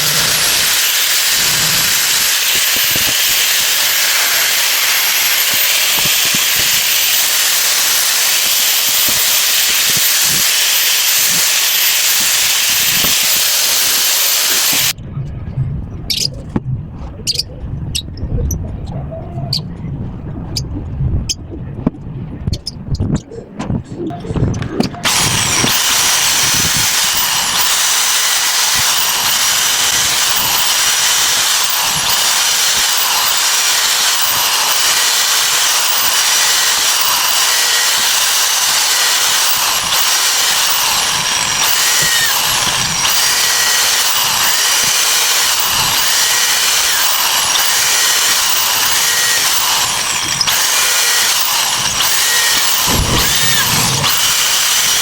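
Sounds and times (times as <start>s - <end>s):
power tool running: 0.0s - 15.0s, 25.0s - 55.0s.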